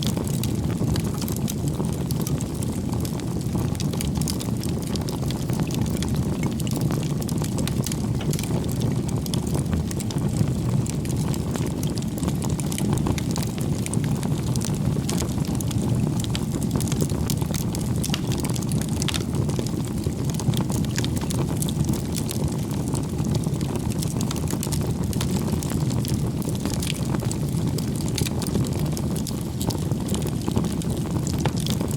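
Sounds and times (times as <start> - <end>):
campfire flames rushing: 0.0 - 31.9
firewood crackling and popping: 0.0 - 31.9.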